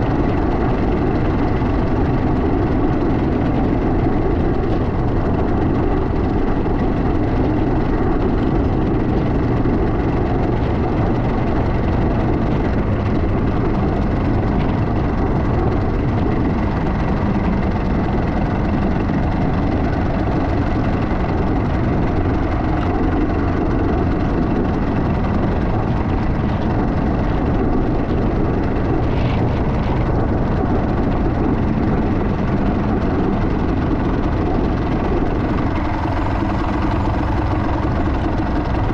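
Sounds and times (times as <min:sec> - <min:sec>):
motorbike engine running: 0:00.0 - 0:38.9.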